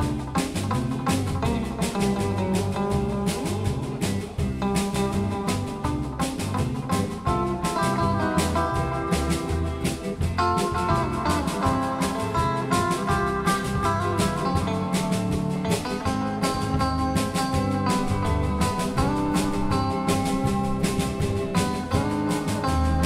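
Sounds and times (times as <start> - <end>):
drum kit beat: 0.0 - 23.0
electric guitars: 0.0 - 23.0.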